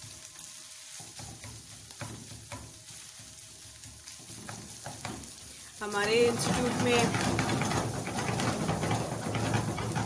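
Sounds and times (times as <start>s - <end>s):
meat sizzling in a pan: 0.0s - 10.0s
spatula scraping a pan: 0.0s - 10.0s.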